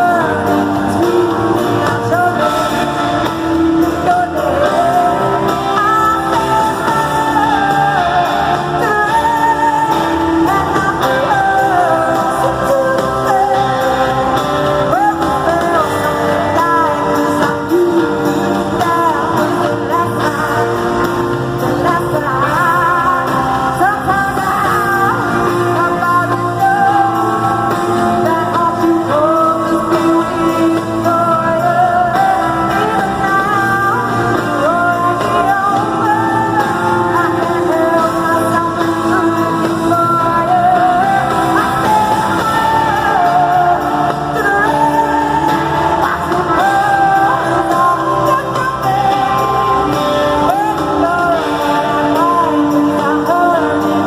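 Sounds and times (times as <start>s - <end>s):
live band playing: 0.0s - 54.0s
woman singing pop ballad: 0.0s - 54.0s.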